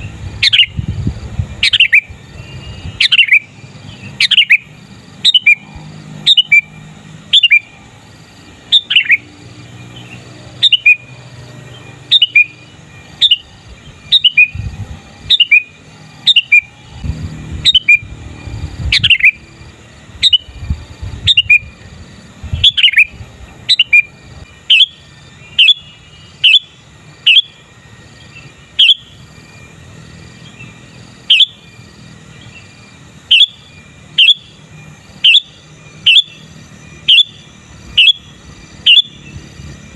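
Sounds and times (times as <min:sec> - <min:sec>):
bird short downward calls: 0:00.0 - 0:19.5, 0:20.1 - 0:21.8, 0:22.4 - 0:29.8, 0:30.4 - 0:39.9.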